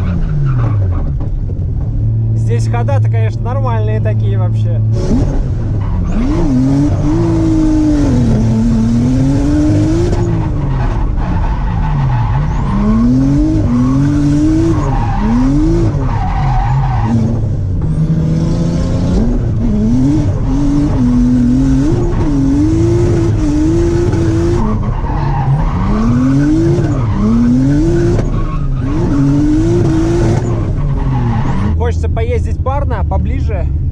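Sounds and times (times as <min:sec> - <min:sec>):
tyres skidding: 0:00.0 - 0:03.9, 0:04.8 - 0:32.1
car engine revving with misfires: 0:04.8 - 0:32.0.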